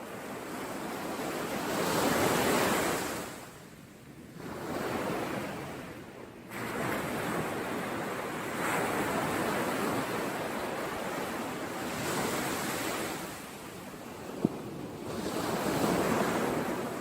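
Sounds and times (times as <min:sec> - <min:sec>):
waves washing in: 0:00.0 - 0:03.6, 0:04.4 - 0:17.0.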